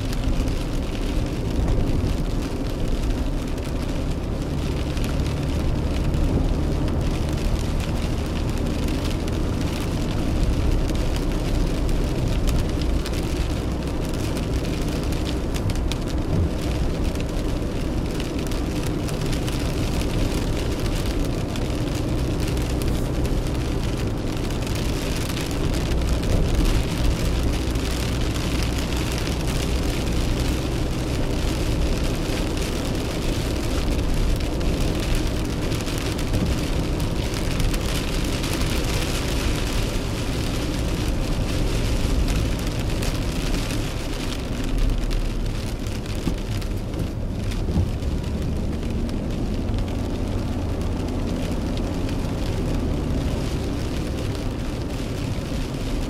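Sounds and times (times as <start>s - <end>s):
car driving on wet road: 0.0s - 56.0s
rain hitting car windshield: 0.0s - 56.0s.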